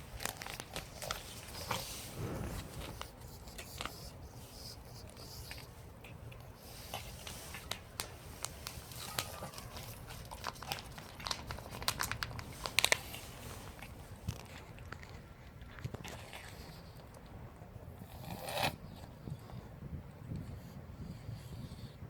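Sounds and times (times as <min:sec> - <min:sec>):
cat chewing with crunching clicks: 0:00.0 - 0:02.0, 0:03.0 - 0:21.9.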